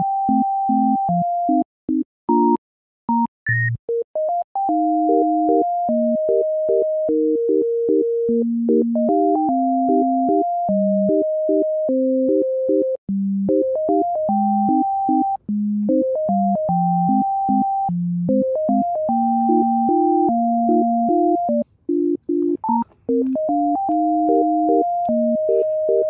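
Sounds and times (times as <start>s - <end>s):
synthesizer melody with bass: 4.3s - 26.0s.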